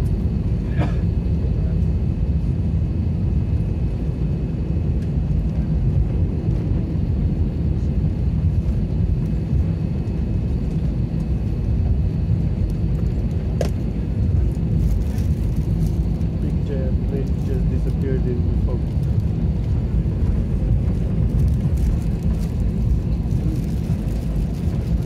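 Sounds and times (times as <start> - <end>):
jet engines idling rumble: 0.0 - 25.0.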